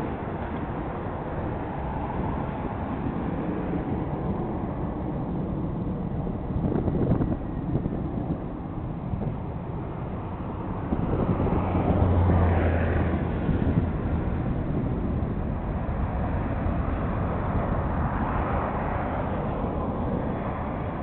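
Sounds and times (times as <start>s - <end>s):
distant jet engines: 0.0s - 21.0s.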